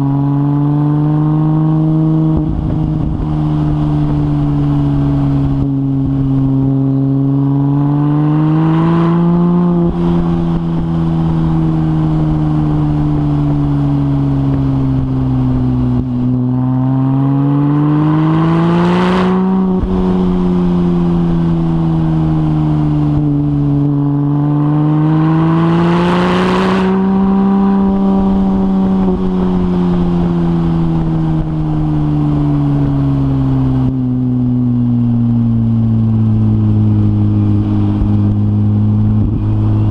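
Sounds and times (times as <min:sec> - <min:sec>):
sports car engine accelerating: 0:00.0 - 0:39.9.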